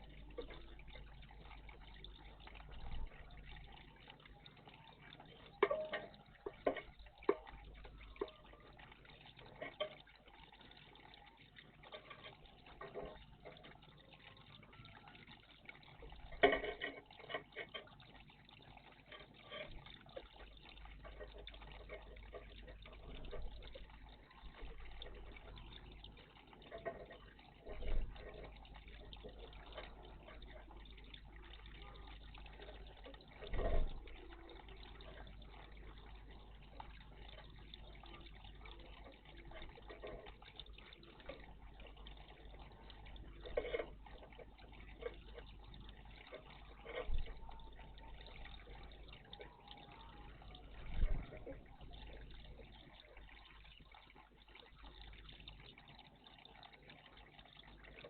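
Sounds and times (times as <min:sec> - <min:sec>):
birds splashing water: 0:00.0 - 0:58.0
faint steady background: 0:00.0 - 0:58.0.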